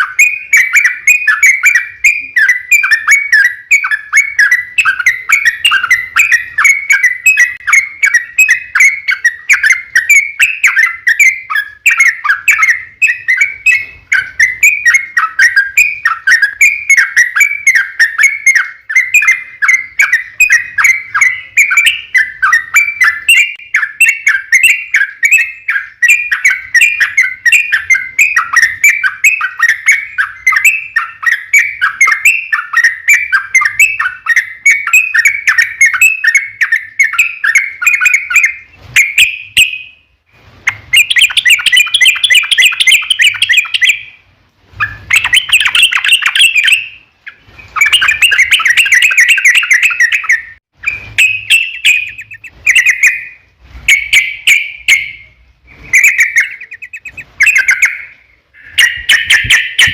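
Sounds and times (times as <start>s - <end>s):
loud bird song phrases: 0.0s - 40.1s, 40.7s - 59.9s
bird chattering song: 0.0s - 59.9s.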